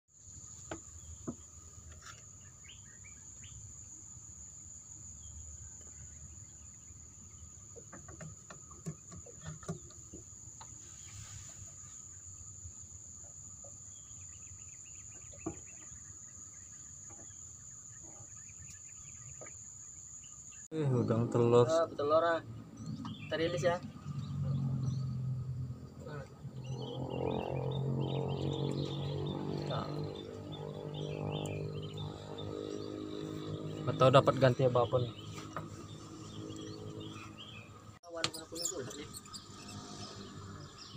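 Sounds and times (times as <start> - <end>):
insects trilling: 0.2 - 40.9.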